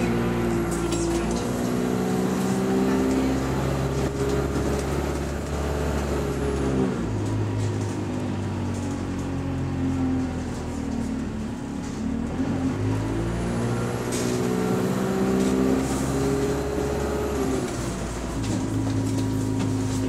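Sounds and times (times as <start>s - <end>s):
bus engine humming: 0.0s - 20.0s.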